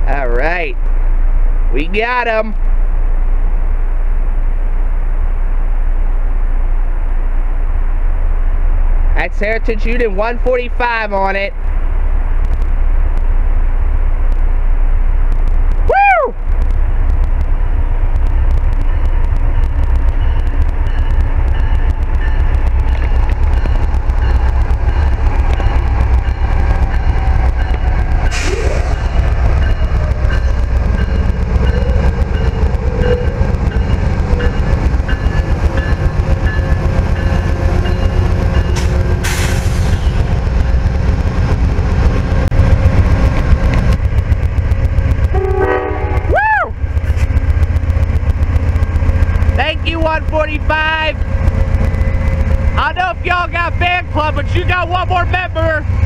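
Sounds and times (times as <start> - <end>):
diesel locomotive rumble: 0.0 - 56.0.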